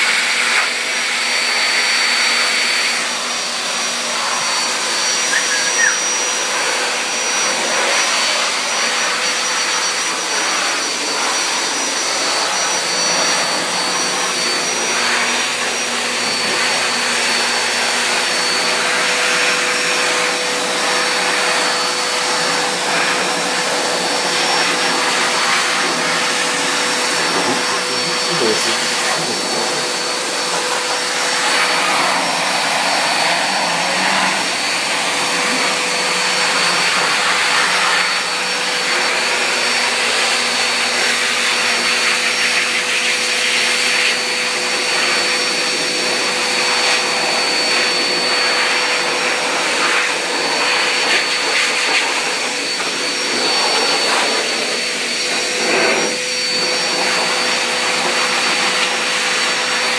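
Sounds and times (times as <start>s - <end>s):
blow dryer air rushing: 0.0s - 59.9s
blower motor high tones: 0.6s - 59.9s.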